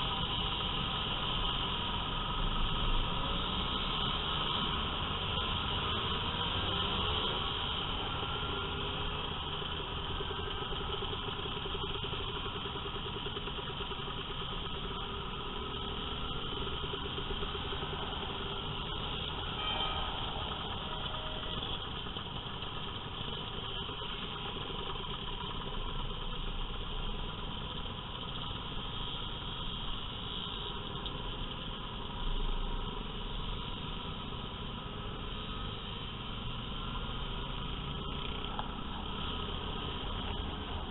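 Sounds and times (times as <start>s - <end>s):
road noise: 0.0s - 40.9s
scooter and motorcycle engines: 0.0s - 40.9s.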